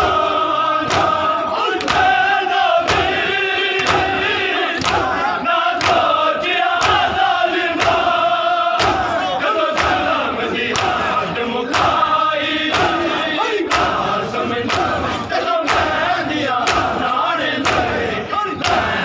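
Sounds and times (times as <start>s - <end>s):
crowd of men chanting: 0.0s - 19.0s
hands slapping chests: 0.8s - 12.1s, 12.7s - 19.0s.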